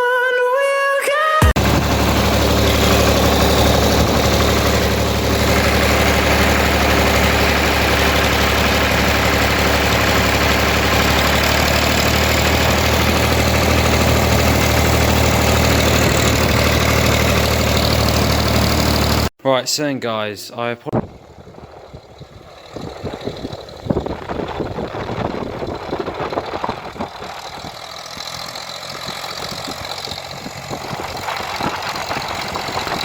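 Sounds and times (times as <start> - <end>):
tractor engine idling: 1.5 - 19.3, 21.0 - 33.0.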